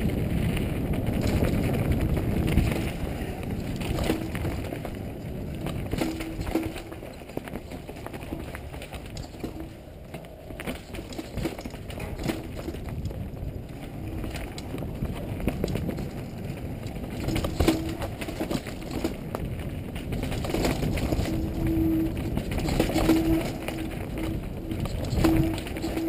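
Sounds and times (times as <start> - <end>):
bike rattling and clicking: 0.0 - 26.0
tyre rumble: 0.0 - 26.0
wind: 0.0 - 26.0.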